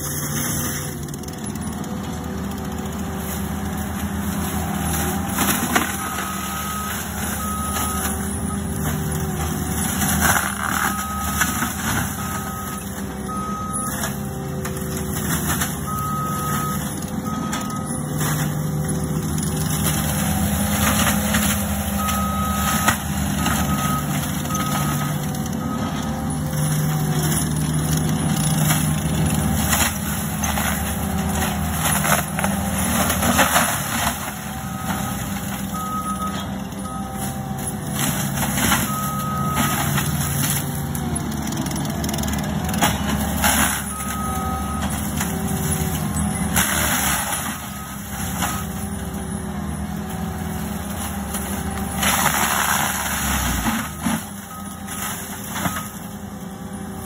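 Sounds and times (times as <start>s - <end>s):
diesel engine under load: 0.0s - 57.0s
mulcher shredding brush: 0.0s - 57.0s.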